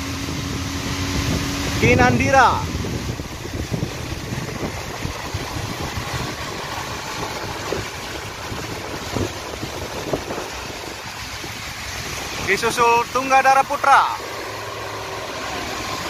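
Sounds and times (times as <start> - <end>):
heavy rain hiss: 0.0 - 16.0
low engine drone: 0.0 - 16.0
vehicles passing on wet road: 0.0 - 16.0
wind rumbling on microphone: 0.0 - 16.0.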